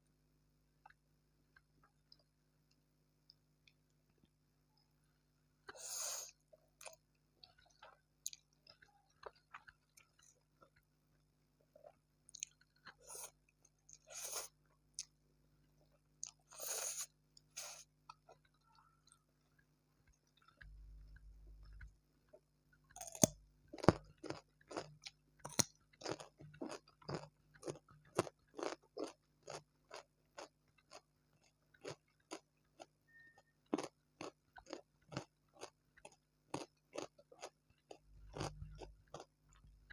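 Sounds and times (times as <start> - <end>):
crunchy food chewing: 5.7 - 10.9, 11.7 - 15.2, 16.0 - 39.9.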